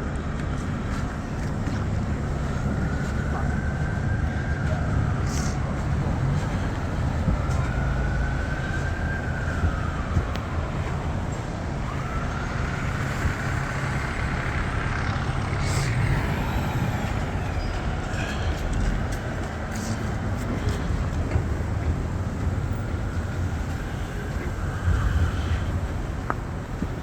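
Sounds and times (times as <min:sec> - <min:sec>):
heavy vehicle engine rumble: 0:00.0 - 0:27.0.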